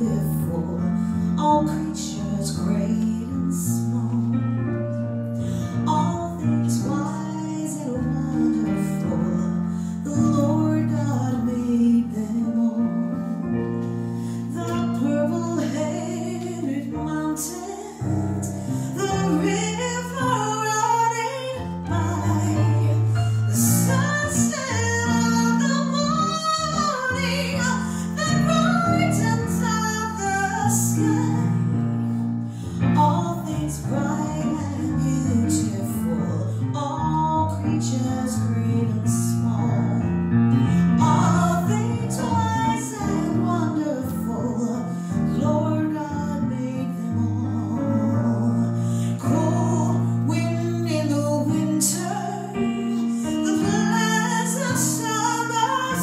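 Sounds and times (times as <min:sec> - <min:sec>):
woman singing into a microphone: 0:00.0 - 0:04.9, 0:05.5 - 0:13.6, 0:14.4 - 0:56.0
digital piano chords: 0:00.0 - 0:56.0.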